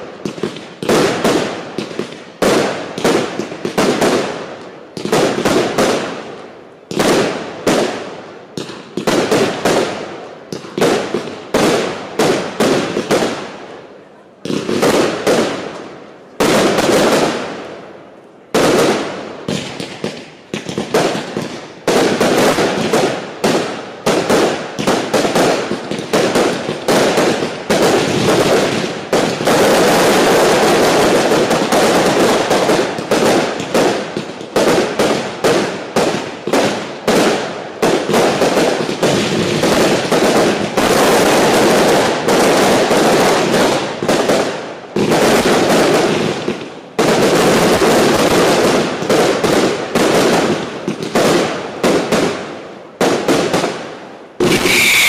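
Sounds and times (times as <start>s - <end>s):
fireworks firing in volleys: 0.0s - 55.0s.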